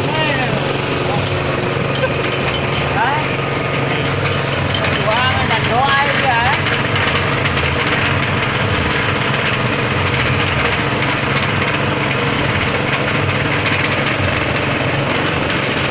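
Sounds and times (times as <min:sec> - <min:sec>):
pellet mill running: 0:00.0 - 0:15.9.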